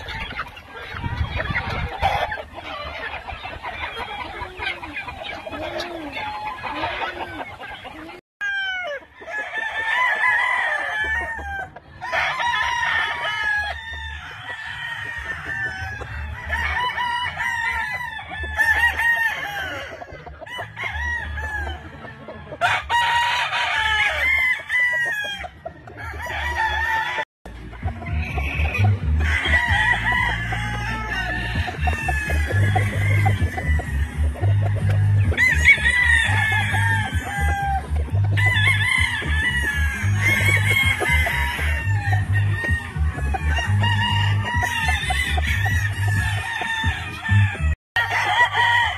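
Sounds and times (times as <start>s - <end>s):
chickens clucking: 0.0s - 48.9s
roosters crowing: 0.0s - 48.9s.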